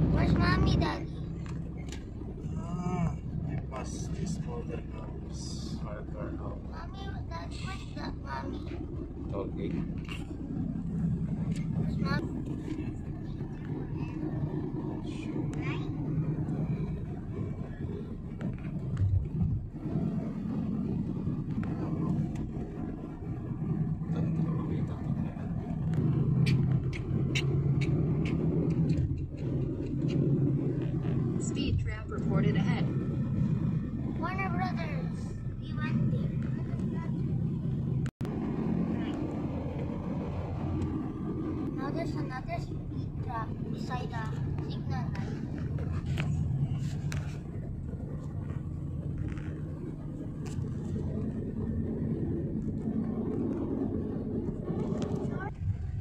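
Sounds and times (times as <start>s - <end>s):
car cabin road hum: 0.0s - 56.0s.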